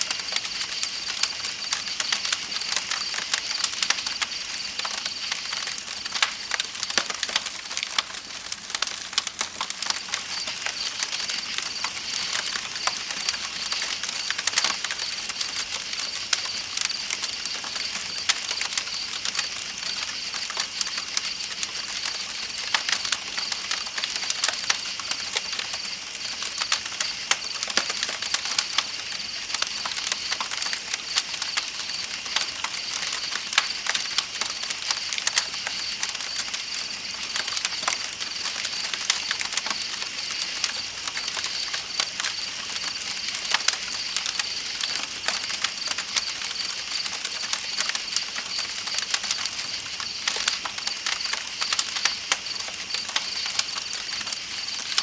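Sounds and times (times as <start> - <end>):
campfire crackling and popping: 0.0 - 55.0
night insects trilling: 0.0 - 55.0.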